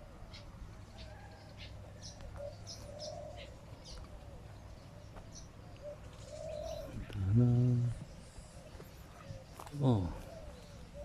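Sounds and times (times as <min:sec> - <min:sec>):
doves cooing: 0:00.0 - 0:11.0
small birds chirping: 0:00.0 - 0:11.0.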